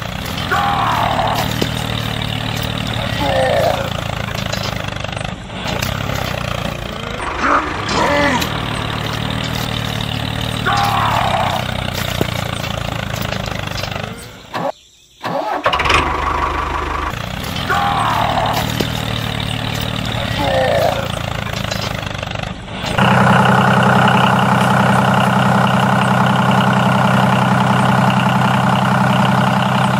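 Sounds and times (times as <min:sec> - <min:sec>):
diesel tractor engine running: 0:00.0 - 0:29.9.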